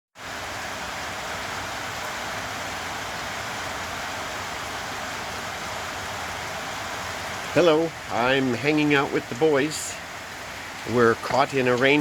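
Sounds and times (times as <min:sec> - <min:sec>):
steady rain hissing: 0:00.2 - 0:12.0.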